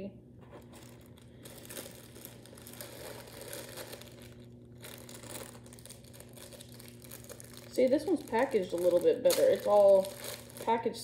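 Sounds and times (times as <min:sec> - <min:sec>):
plastic bags crinkling: 0:00.4 - 0:11.0.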